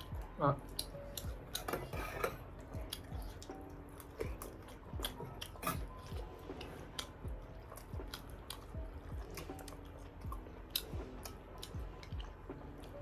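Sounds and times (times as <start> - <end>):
person chewing and mouth smacking: 0.0 - 13.0.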